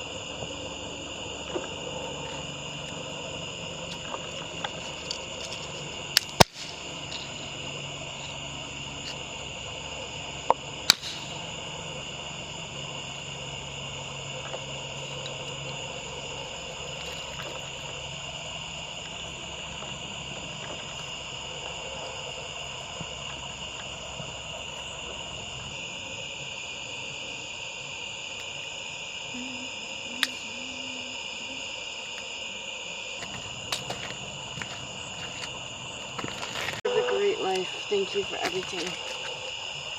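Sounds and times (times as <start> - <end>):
low hum: 0.0 - 39.9
night insects trilling: 0.0 - 39.9.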